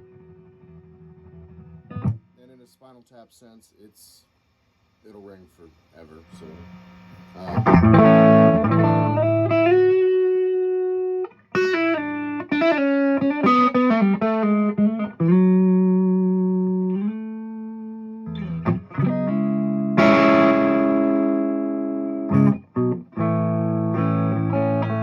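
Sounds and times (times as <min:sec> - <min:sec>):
clean electric guitar playing: 0:00.0 - 0:02.3, 0:06.3 - 0:25.0.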